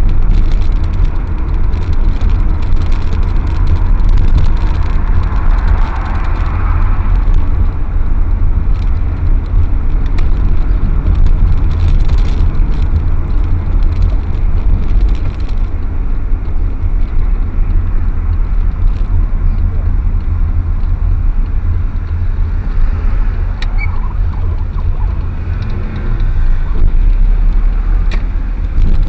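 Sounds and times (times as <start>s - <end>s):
car engine and road noise: 0.0s - 29.0s
faint clicks and rattles: 0.0s - 29.0s.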